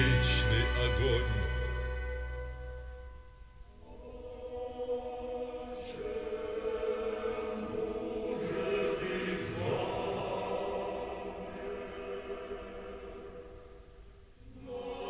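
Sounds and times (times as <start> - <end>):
choir-like vocal music: 0.0 - 3.0, 3.7 - 15.0
tape hiss: 0.0 - 15.0.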